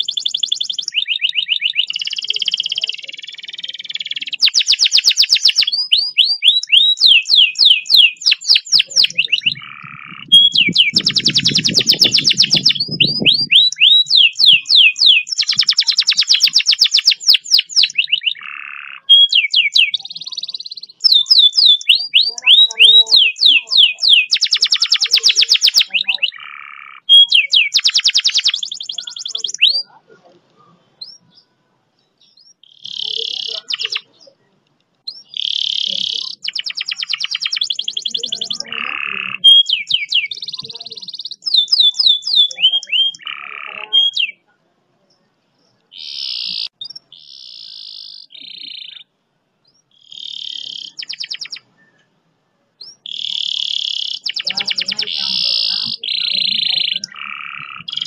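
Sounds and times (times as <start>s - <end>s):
canary singing rolled trills: 0.0s - 44.5s, 45.1s - 52.1s, 52.8s - 58.0s.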